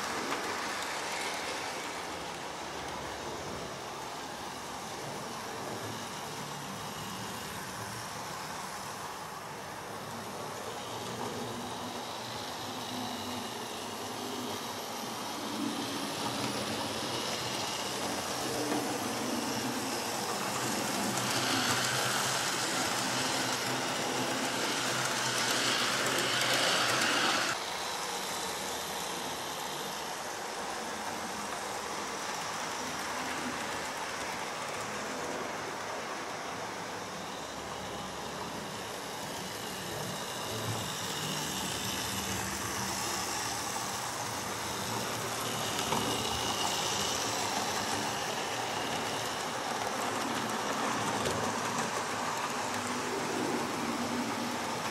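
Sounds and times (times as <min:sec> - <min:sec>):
model train running on track: 0:00.0 - 0:54.9.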